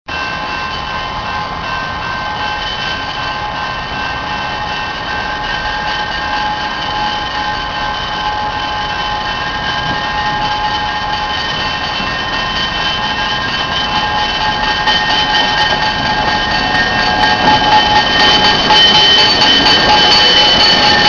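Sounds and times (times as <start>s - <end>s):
diesel locomotive engine rumble: 0.1s - 21.0s.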